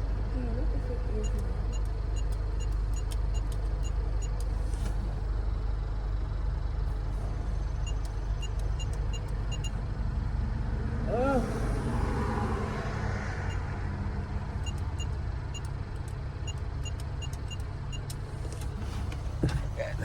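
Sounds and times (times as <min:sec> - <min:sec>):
car cabin road rumble: 0:00.0 - 0:20.0.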